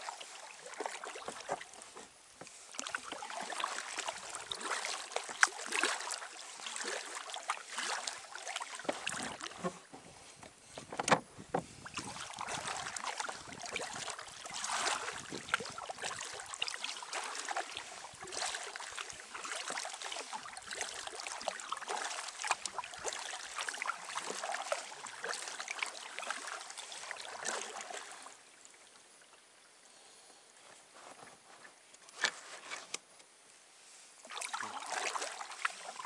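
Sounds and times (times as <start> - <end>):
kayak paddle splashing: 0.0 - 28.7, 34.2 - 36.0.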